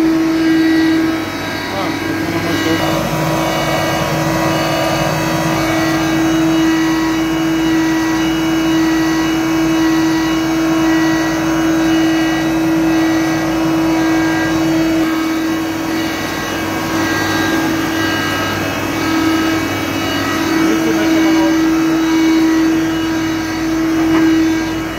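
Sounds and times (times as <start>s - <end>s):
sanding machine humming: 0.0s - 24.9s.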